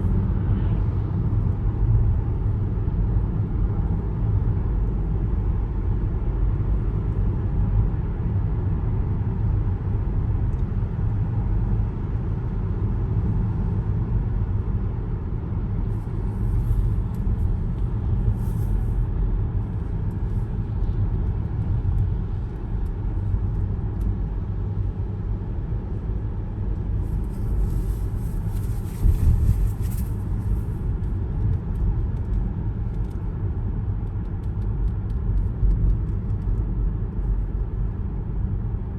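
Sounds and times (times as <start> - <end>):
car tyres and engine rumble: 0.0 - 38.9.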